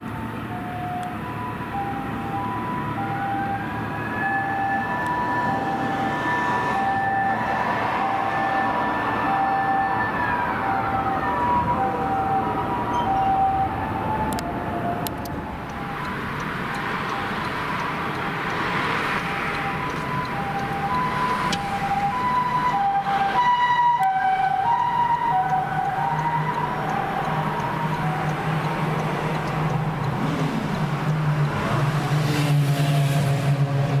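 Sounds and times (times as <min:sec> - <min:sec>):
two-tone ambulance siren: 0:00.0 - 0:33.2
traffic noise: 0:00.0 - 0:34.0.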